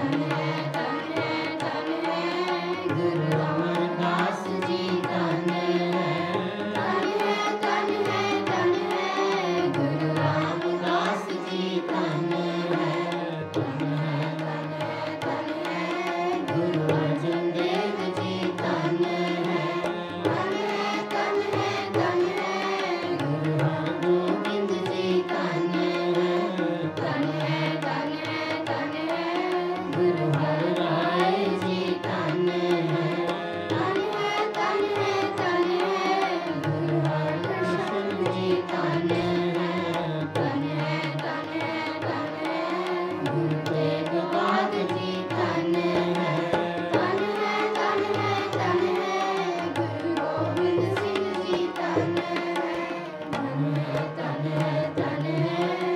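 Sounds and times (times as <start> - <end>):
harmonium held notes: 0.0 - 55.9
person singing: 0.0 - 55.9
tabla rhythm: 0.0 - 55.9.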